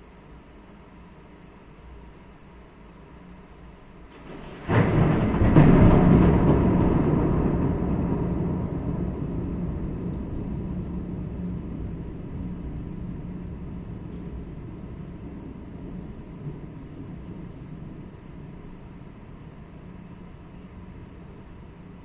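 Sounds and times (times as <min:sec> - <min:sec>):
thunder clap and rumble: 0:03.8 - 0:22.0
heavy rain: 0:04.0 - 0:22.0.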